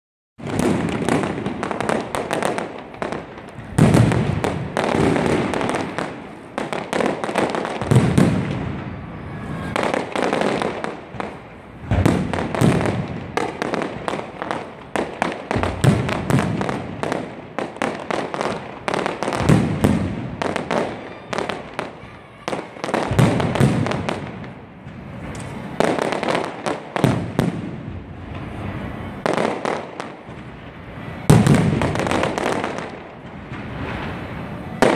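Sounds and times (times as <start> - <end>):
fireworks crackling and popping: 0.4 - 34.9
fireworks shells booming: 0.4 - 34.9.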